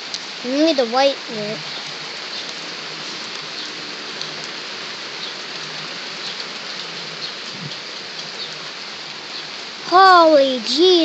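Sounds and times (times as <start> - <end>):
heavy rain falling: 0.0 - 11.0
raindrops ticking on surfaces: 0.0 - 11.0.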